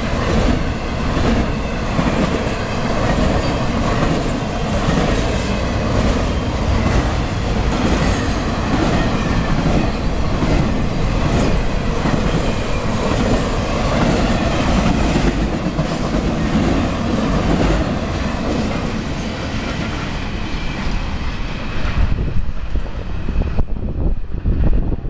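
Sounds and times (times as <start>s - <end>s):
freight train wheels clacking: 0.0s - 21.9s.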